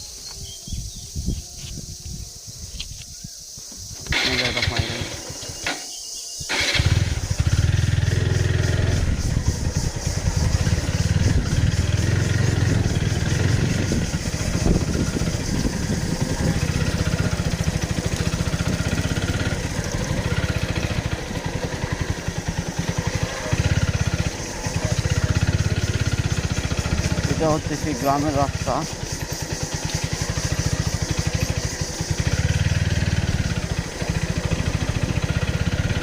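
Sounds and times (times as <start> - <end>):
motorcycle engine running: 3.7 - 36.0.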